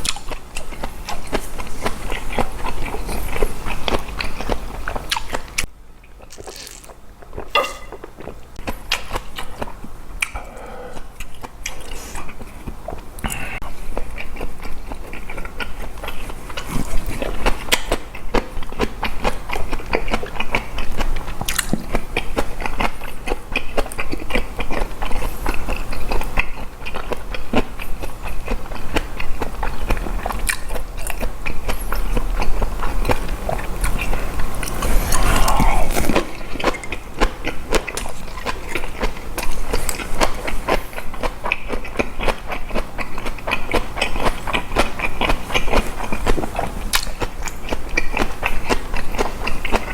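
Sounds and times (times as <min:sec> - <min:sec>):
chewing with wet mouth clicks: 0:00.0 - 0:10.4, 0:11.0 - 0:49.9.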